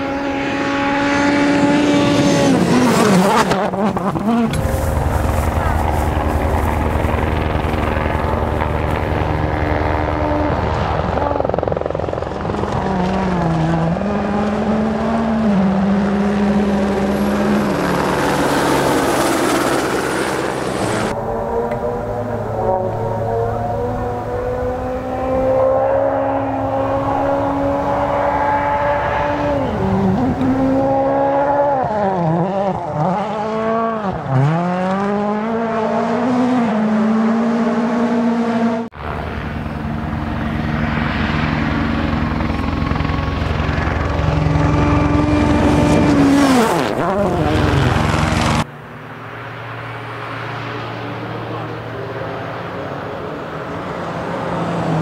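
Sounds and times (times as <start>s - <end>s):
rally car engine revving: 0.0s - 48.7s.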